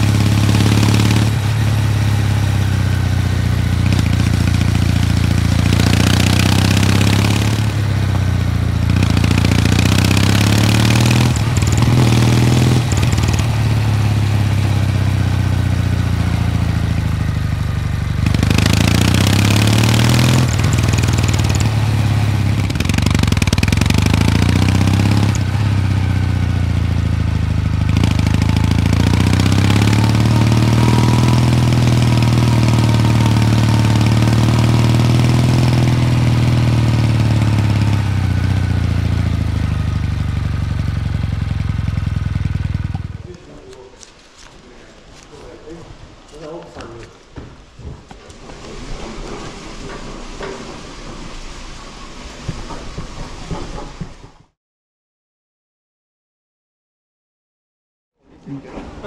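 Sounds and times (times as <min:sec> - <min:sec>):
motorcycle engine running: 0:00.0 - 0:51.8.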